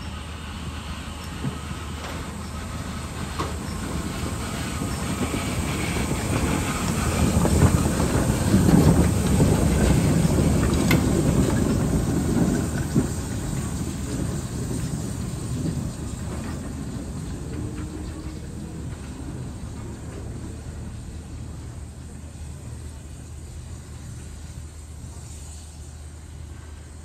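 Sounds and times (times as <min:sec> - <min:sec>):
steam locomotive passing slowly: 0:00.0 - 0:27.0.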